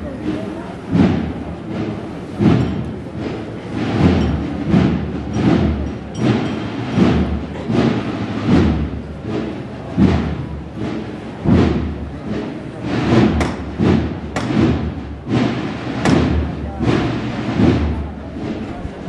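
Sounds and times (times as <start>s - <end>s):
muffled drum beating slow march: 0.0s - 19.0s.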